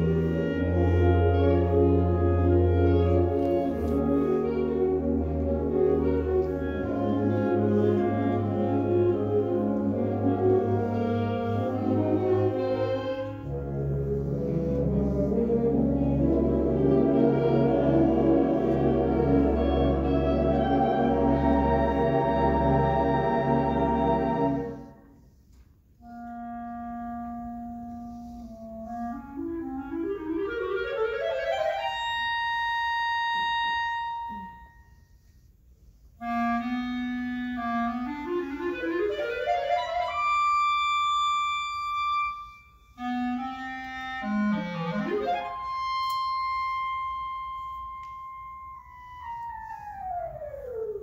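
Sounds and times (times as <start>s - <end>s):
solo clarinet playing: 0.0s - 25.4s, 26.0s - 35.1s, 36.1s - 51.0s.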